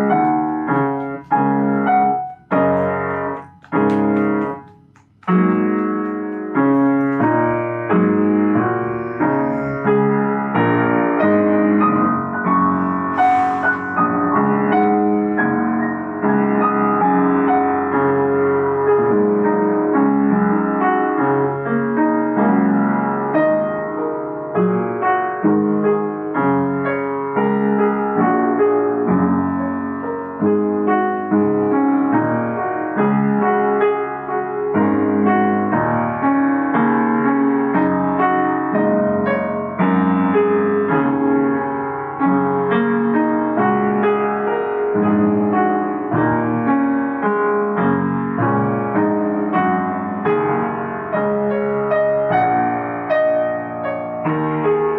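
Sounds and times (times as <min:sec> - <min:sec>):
solo piano: 0:00.0 - 0:54.9.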